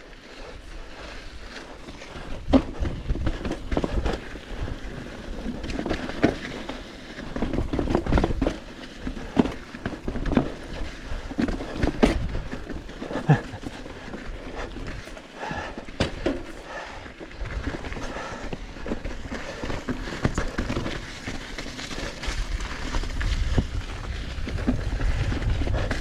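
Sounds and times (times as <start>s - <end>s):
mountain bike knocks and rattles: 1.8s - 16.6s, 17.3s - 26.0s.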